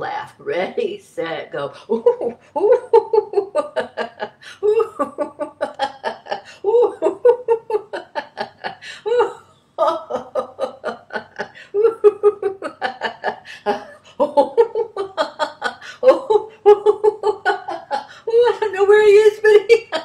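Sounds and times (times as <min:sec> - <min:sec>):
woman laughing: 0:01.8 - 0:20.0.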